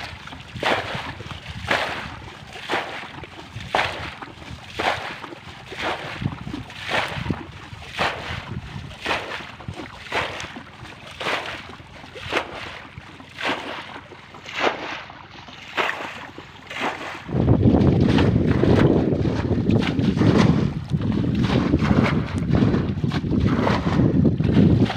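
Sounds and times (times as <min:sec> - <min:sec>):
wind noise on microphone: 0:00.0 - 0:13.2, 0:16.7 - 0:24.9
water splashing as bailed: 0:00.0 - 0:24.9.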